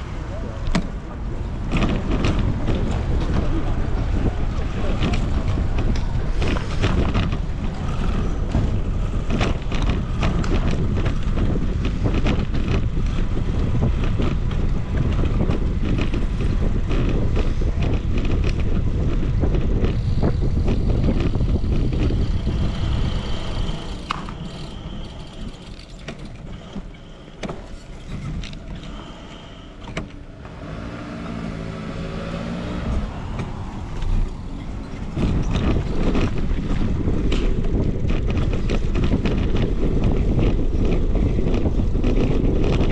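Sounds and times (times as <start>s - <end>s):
motor vehicle engine: 0.0s - 42.9s
wind buffeting a microphone: 0.0s - 42.9s.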